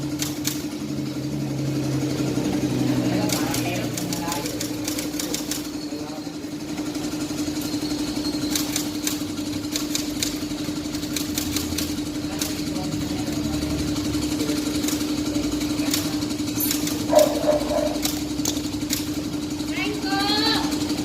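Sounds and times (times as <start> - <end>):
small motorcycle engine idling: 0.0 - 21.0.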